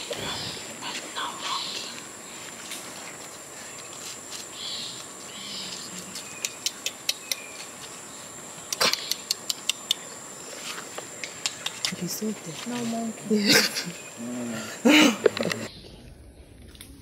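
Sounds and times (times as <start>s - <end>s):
high-pitched insect drone: 0.0s - 15.8s.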